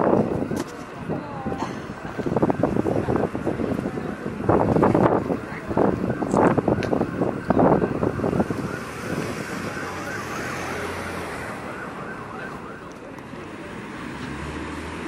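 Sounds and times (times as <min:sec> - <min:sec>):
emergency siren warbling: 0:00.0 - 0:13.8.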